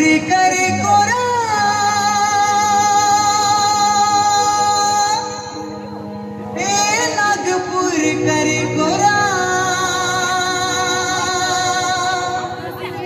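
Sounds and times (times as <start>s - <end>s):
high sung voice: 0.0s - 13.0s.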